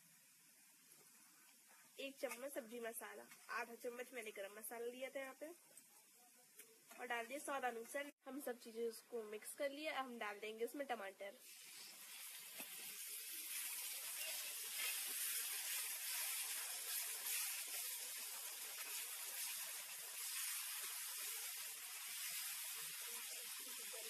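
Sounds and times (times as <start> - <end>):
tomatoes sizzling in hot oil: 0.0 - 24.0.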